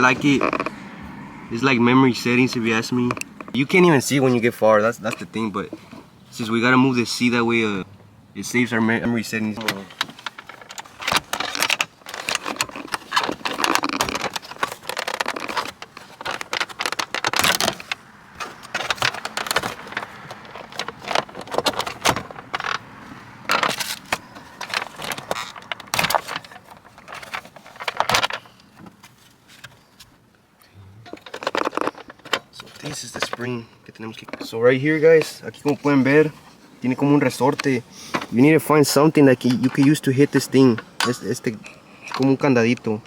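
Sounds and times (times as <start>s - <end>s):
hand tools and plastic parts rattling: 0.0s - 0.8s, 2.2s - 6.2s, 9.1s - 43.0s.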